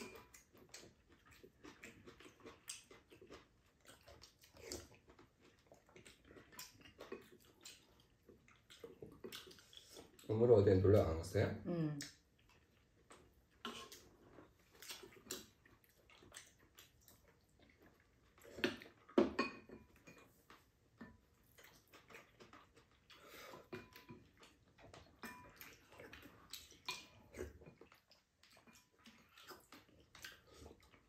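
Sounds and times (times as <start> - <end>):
chewing and slurping soup: 0.0 - 10.5, 12.0 - 31.0.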